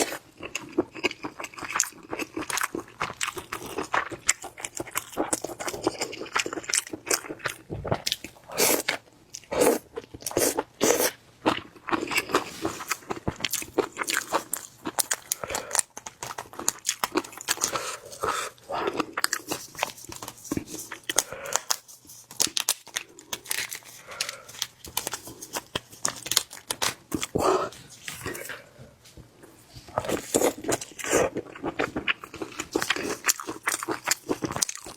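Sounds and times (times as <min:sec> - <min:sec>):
food crunching and chewing: 0:00.0 - 0:34.9.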